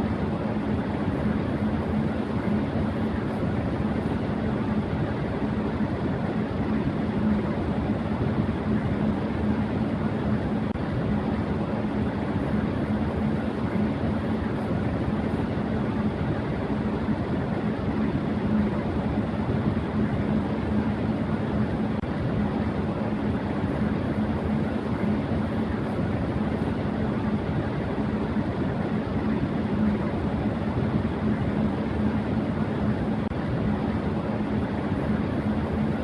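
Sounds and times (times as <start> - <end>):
electric fan running: 0.0 - 36.0.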